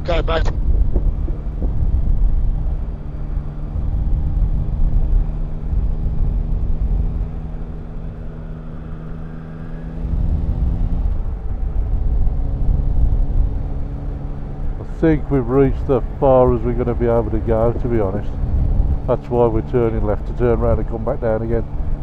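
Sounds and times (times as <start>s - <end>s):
motorcycle engine running: 0.0s - 22.0s
wind and road rumble: 0.0s - 22.0s.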